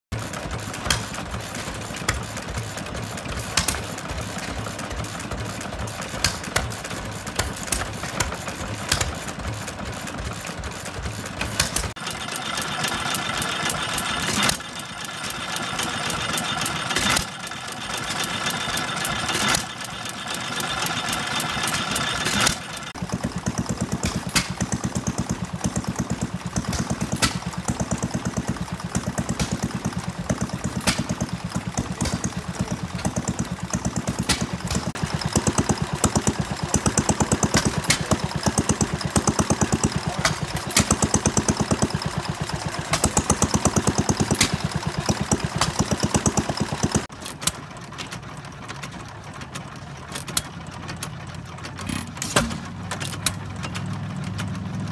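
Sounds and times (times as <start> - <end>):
stationary gas engines running: 0.0 - 54.9
mechanical rattle with hiss: 0.2 - 54.4.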